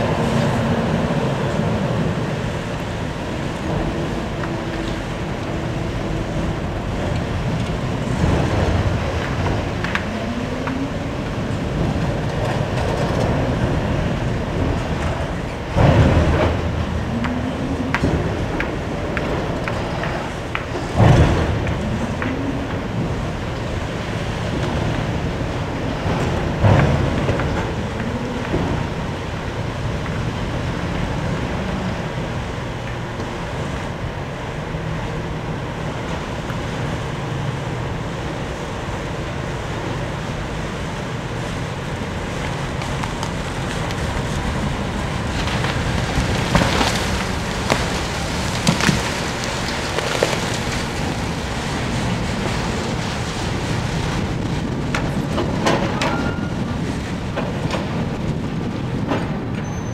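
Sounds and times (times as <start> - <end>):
machinery rumble: 0.0 - 59.9
wind on microphone: 0.0 - 59.9.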